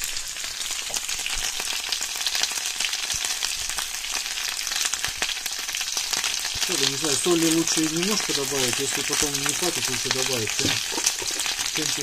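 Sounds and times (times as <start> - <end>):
potatoes sizzling in frying pan: 0.0 - 12.0.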